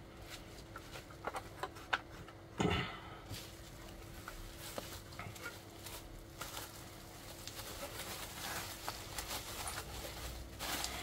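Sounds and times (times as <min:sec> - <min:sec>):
bubble wrap rustling: 0:00.0 - 0:02.3, 0:03.2 - 0:11.0.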